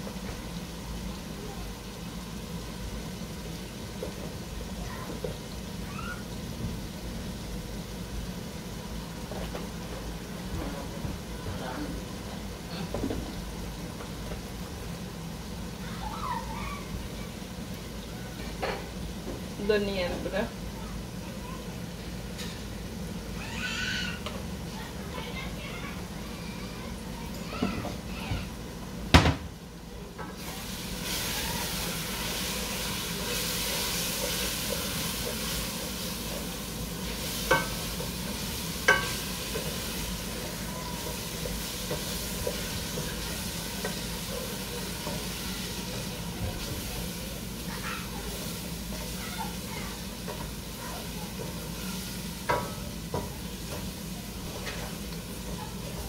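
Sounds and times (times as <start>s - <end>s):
spices sizzling in a pot: 0.0s - 56.0s.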